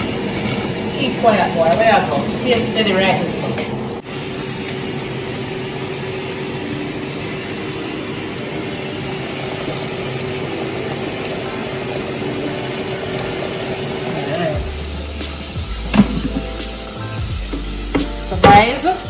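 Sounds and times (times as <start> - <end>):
oil crackling and sizzling: 0.0 - 19.0.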